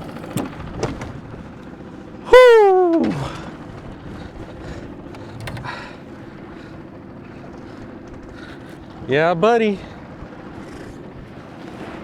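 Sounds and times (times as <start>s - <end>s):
boat engine idling: 0.0s - 12.0s
wind: 0.0s - 12.0s.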